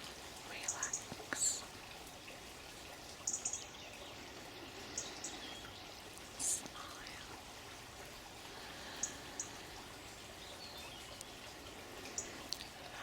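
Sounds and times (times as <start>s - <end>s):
trickling stream: 0.0s - 13.0s.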